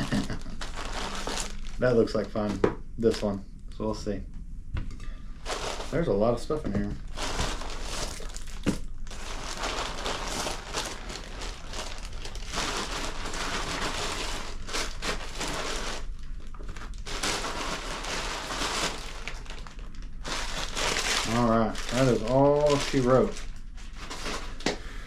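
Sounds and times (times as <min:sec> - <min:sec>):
packaging crinkling and rustling: 0:00.0 - 0:03.4, 0:05.4 - 0:24.8.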